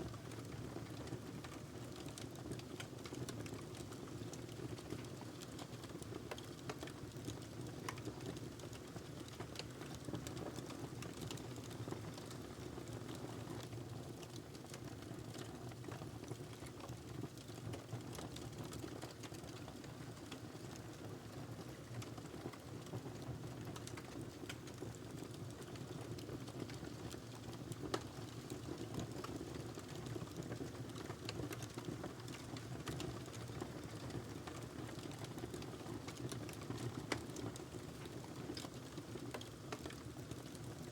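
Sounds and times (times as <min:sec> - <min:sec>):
wood fire crackling: 0:05.4 - 0:20.9, 0:23.5 - 0:40.7.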